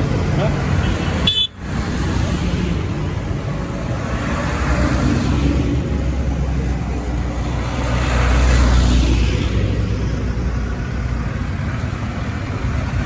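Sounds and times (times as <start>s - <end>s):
tractor engines droning: 0.0s - 13.0s.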